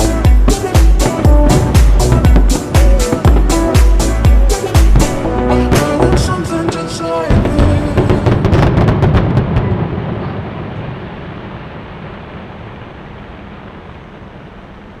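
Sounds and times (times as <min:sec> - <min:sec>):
fireworks low rumble: 0:00.0 - 0:15.0
fireworks cracking: 0:00.4 - 0:14.2.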